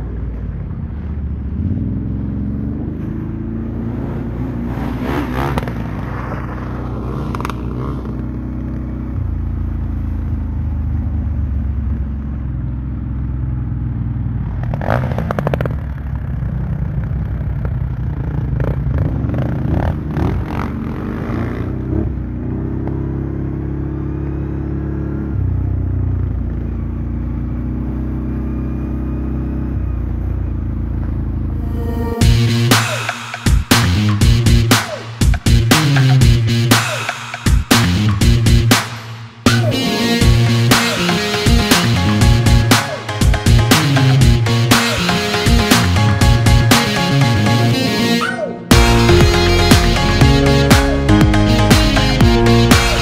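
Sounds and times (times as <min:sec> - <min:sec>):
off-road engine running: 0:00.0 - 0:47.8, 0:48.7 - 0:53.0.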